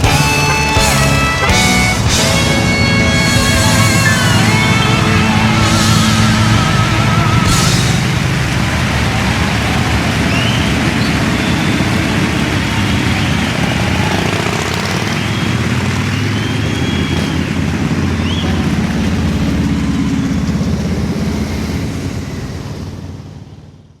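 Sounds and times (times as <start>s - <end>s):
motorcycle engines rumbling: 0.0s - 24.0s.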